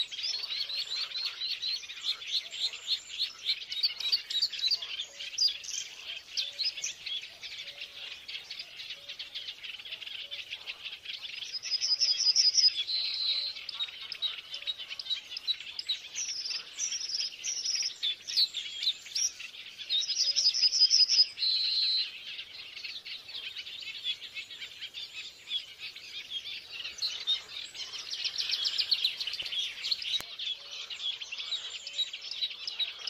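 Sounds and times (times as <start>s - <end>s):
birds chirping and trilling: 0.0s - 33.0s.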